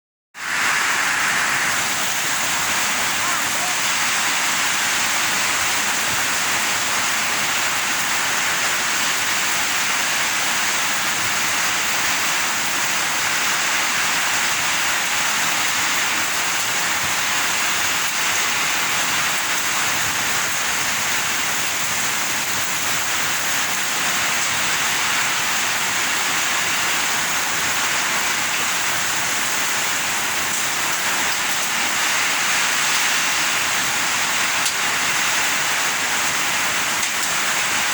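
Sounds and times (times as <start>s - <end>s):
heavy rain pouring: 0.4s - 37.9s.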